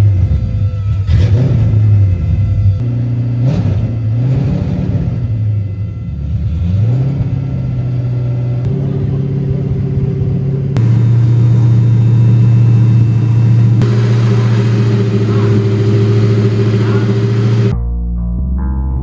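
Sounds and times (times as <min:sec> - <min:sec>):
car engine idling: 0:00.0 - 0:17.8.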